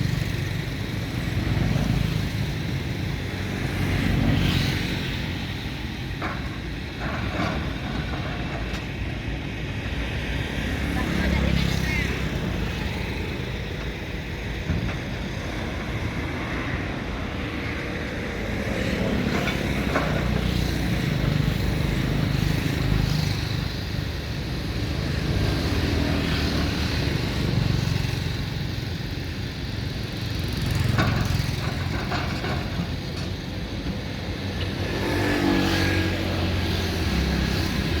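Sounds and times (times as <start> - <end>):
excavator diesel engine rumble: 0.0 - 38.0.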